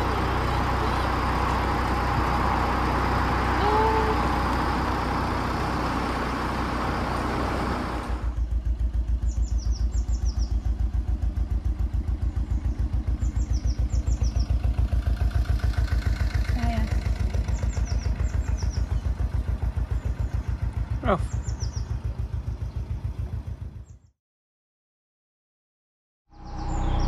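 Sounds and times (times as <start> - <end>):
birds chirping: 0.0 - 6.2, 8.3 - 24.1, 26.3 - 27.0
diesel engine chugging: 0.0 - 24.1.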